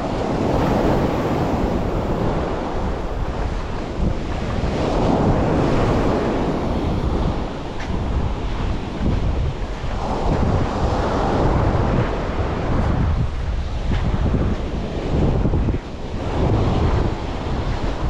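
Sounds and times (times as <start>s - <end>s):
waves washing onto beach: 0.0s - 18.0s
wind buffeting microphone: 0.0s - 18.0s.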